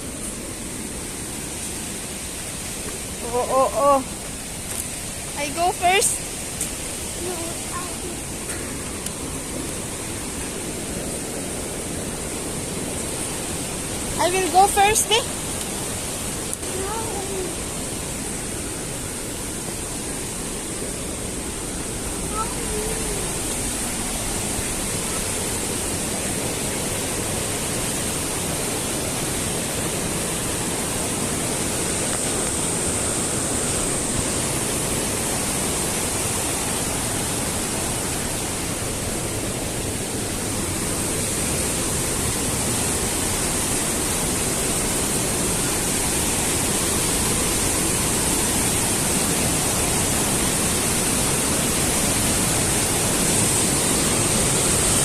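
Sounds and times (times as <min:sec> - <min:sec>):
stream and waterfalls rushing: 0:00.0 - 0:55.0.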